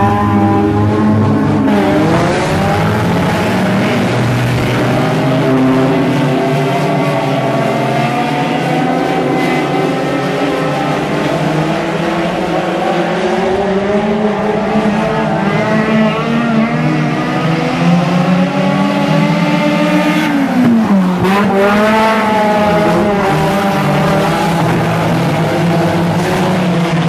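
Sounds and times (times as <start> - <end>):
race car engines at high revs: 0.0 - 27.0.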